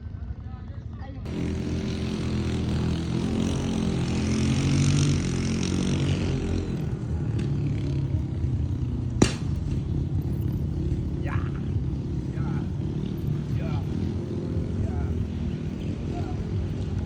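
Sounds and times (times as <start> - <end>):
atv engine running: 1.2 - 17.0.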